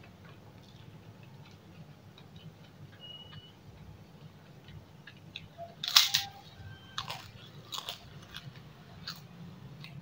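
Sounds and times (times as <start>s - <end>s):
cracker crunching: 0.0s - 3.0s, 4.2s - 10.0s.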